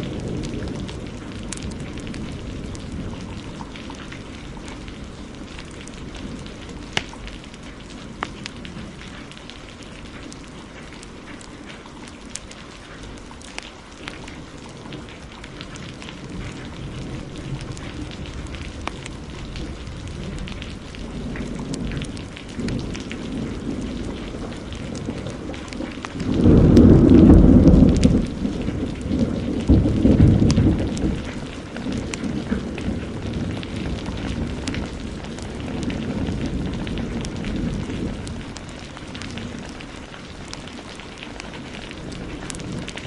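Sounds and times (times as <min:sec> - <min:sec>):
thunder rumbling: 0:00.0 - 0:11.4, 0:12.1 - 0:43.0
heavy rain: 0:00.0 - 0:43.0.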